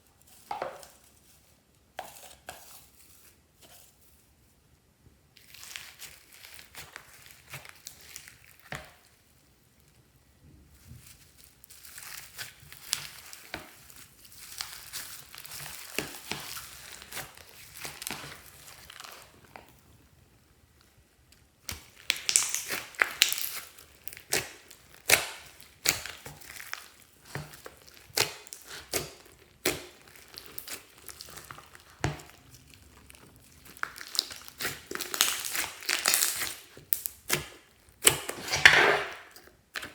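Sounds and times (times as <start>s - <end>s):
slime crackling and popping: 5.4s - 9.9s, 10.8s - 39.9s.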